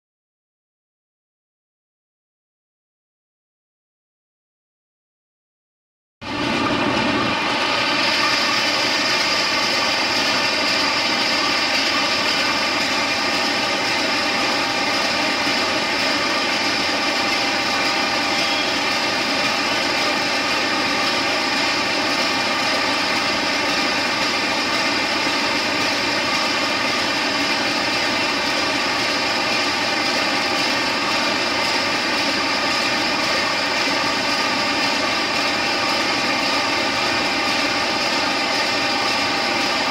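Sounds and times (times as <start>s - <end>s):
high whine: 6.2s - 39.9s.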